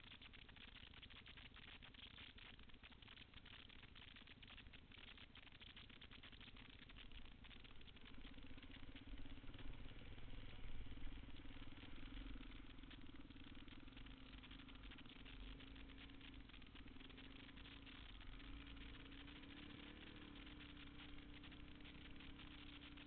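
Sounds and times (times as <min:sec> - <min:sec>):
motorcycle engine running: 0:00.2 - 0:23.0.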